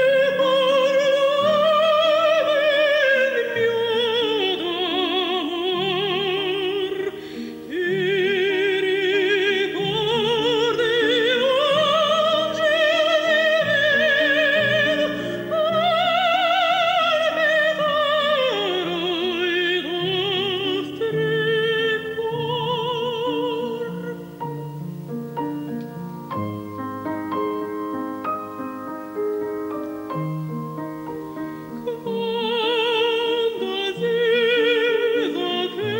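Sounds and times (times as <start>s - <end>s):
woman singing operatically: 0.0s - 24.6s, 31.7s - 35.9s
piano accompaniment: 0.0s - 35.9s.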